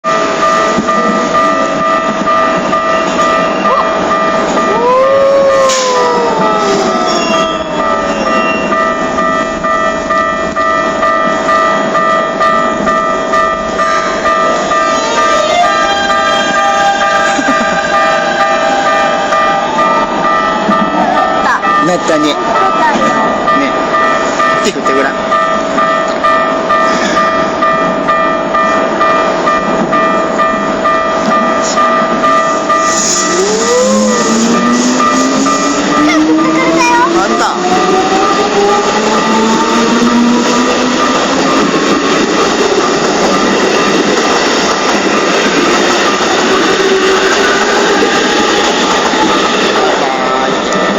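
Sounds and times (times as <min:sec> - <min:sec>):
level-crossing alarm ringing: 0:00.0 - 0:50.9
train inverter whine: 0:00.0 - 0:50.9
train rumble: 0:00.0 - 0:50.9.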